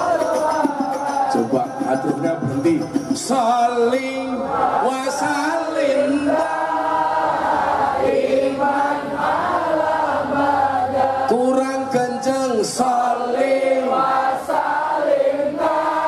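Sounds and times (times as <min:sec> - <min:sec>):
group singing chant-like: 0:00.0 - 0:16.0.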